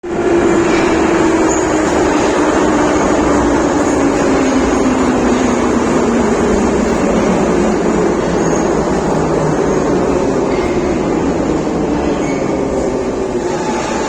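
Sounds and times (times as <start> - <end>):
train wheels and motors rumbling: 0.1 - 14.0.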